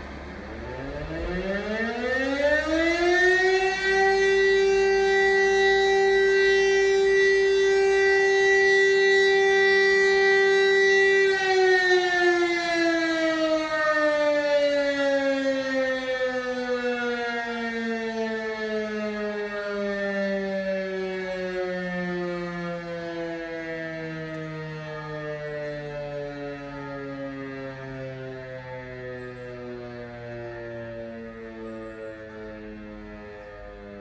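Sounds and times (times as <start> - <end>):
motor-driven fire siren: 0.0 - 34.0.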